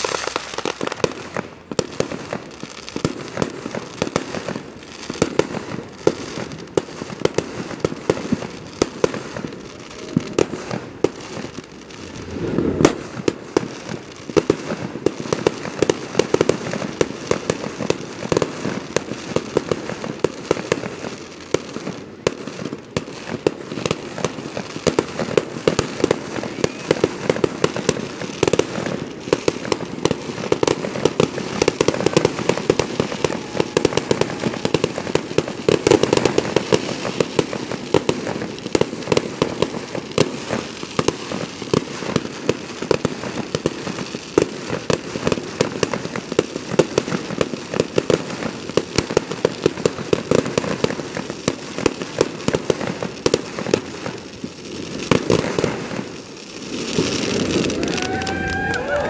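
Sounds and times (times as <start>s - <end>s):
fireworks bangs and pops: 0.0s - 59.0s.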